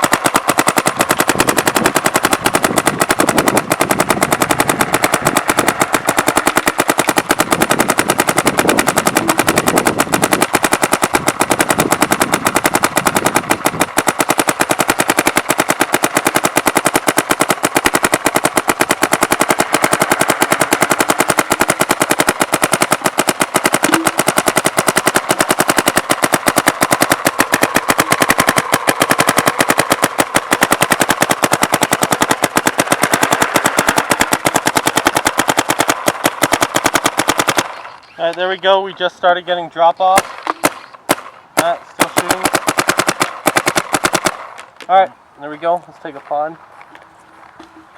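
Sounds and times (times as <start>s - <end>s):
paintball marker firing rapidly: 0.0s - 46.5s.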